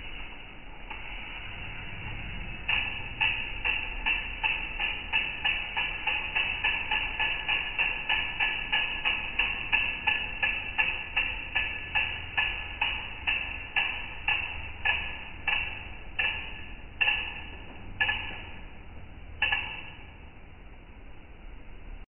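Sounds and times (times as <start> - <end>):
bike wheel metallic pings: 0.0 - 20.3.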